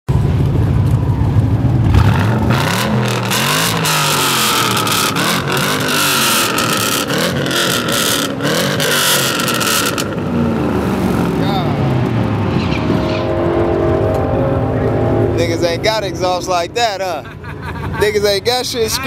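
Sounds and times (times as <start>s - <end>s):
car engine revving: 1.4s - 18.0s.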